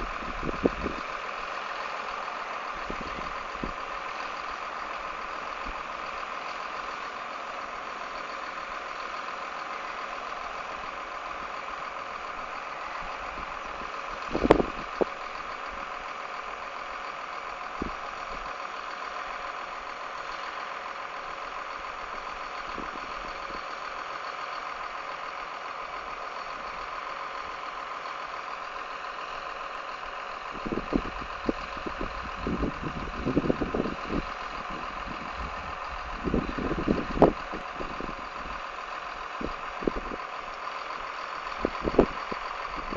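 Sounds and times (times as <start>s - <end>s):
harvest machinery droning: 0.0s - 42.9s.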